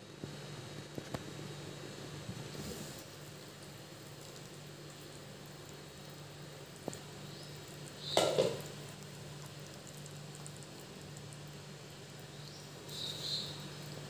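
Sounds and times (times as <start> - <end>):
gravy bubbling in a pan: 0.0 - 14.0
steady low hum: 0.0 - 14.0.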